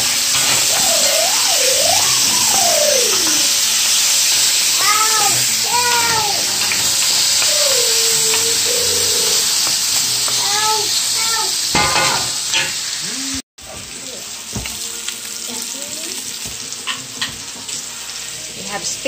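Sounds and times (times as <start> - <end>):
food sizzling in skillet: 0.0 - 19.0.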